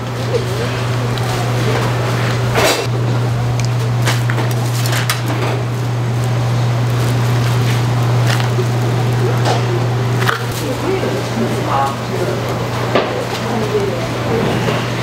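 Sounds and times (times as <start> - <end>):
loud steady low hum: 0.0 - 15.0.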